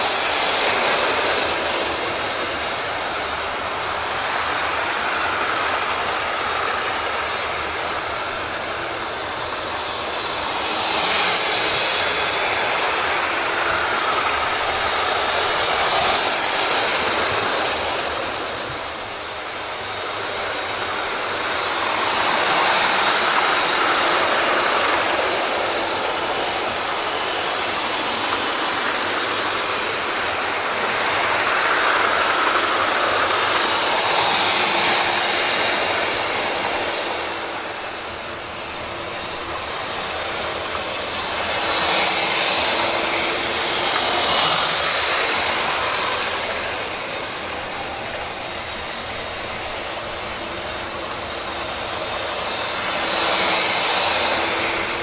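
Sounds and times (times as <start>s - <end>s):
model trains whirring on rails: 0.0s - 55.0s.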